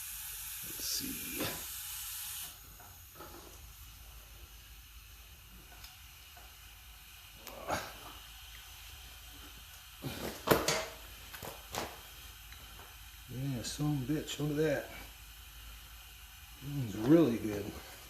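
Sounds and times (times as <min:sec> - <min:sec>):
compressed air bursts: 0:00.0 - 0:18.0
faint steady air hiss: 0:00.0 - 0:18.0.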